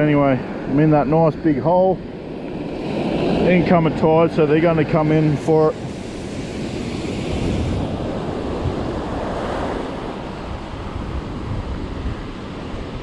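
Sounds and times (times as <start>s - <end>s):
ocean surf breaking on beach: 0.0s - 13.0s
wind buffeting microphone: 0.0s - 13.0s.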